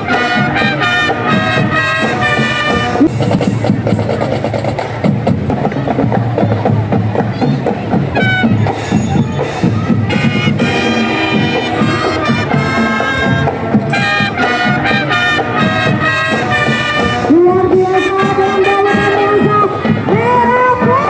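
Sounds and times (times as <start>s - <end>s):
marching drums: 0.0s - 21.0s.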